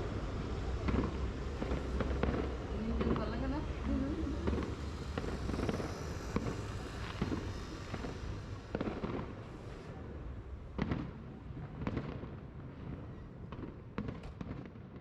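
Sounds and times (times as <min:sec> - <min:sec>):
firework crackling pops: 0:00.0 - 0:15.0.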